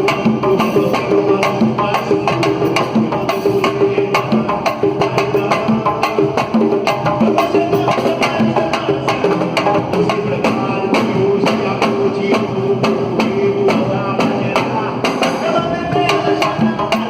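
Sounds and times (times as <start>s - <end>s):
samba music with drums: 0.0s - 17.0s.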